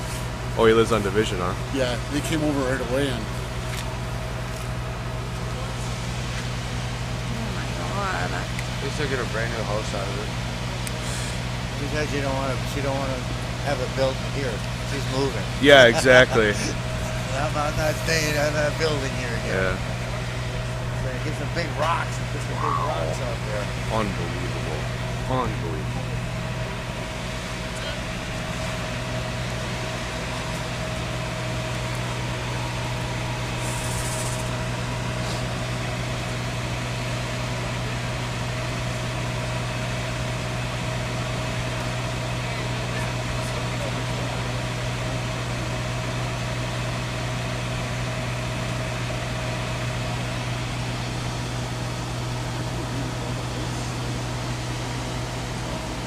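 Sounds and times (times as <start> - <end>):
faint constant whine: 0.0 - 56.0
low mechanical hum: 0.0 - 56.0.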